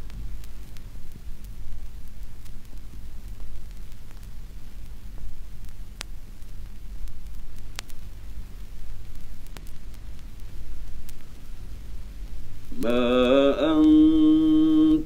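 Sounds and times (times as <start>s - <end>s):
low electrical hum: 0.0s - 15.0s
recording hiss: 0.0s - 15.0s
sharp crackle clicks: 0.0s - 15.0s.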